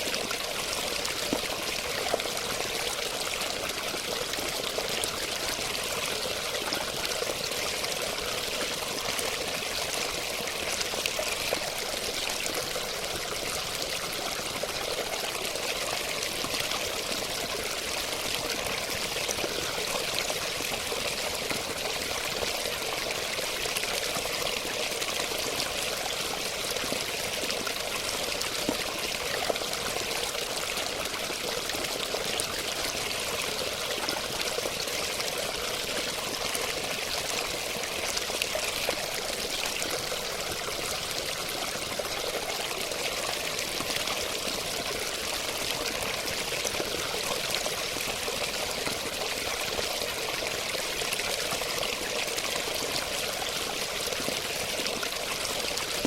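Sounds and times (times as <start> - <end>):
water flowing and splashing: 0.0 - 56.0.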